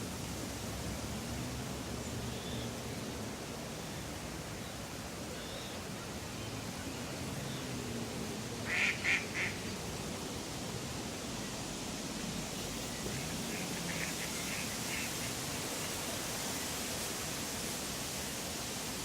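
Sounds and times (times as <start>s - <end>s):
park background noise: 0.0s - 19.0s.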